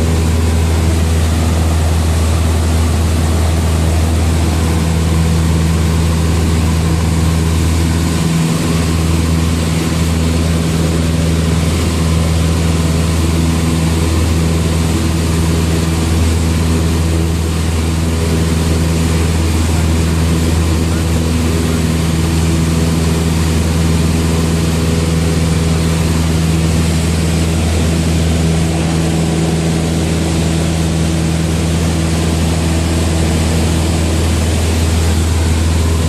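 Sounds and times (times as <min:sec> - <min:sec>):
airplane engine and propeller drone: 0:00.0 - 0:36.0.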